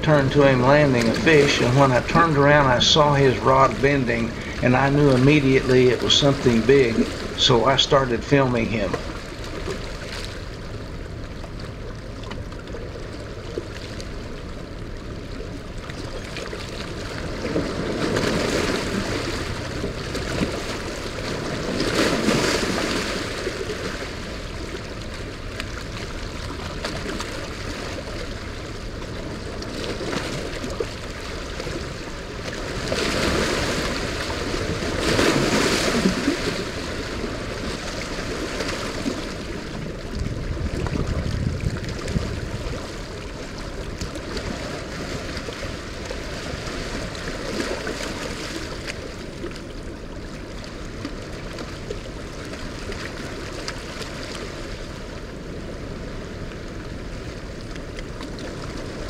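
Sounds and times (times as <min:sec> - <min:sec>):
rushing turbulent water: 0:00.0 - 0:59.0
waves washing against rocky bank: 0:00.0 - 0:59.0.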